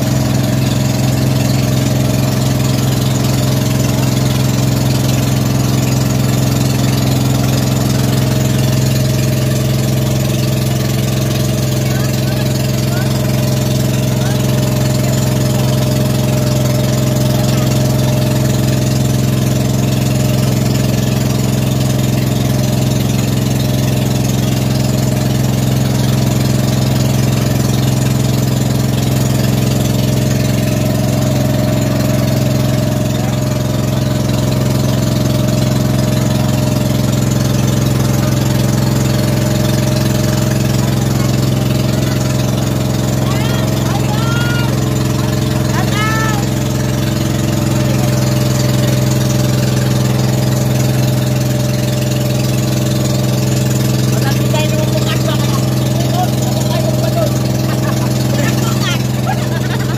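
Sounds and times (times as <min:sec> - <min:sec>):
boat engine hum: 0:00.0 - 0:59.9.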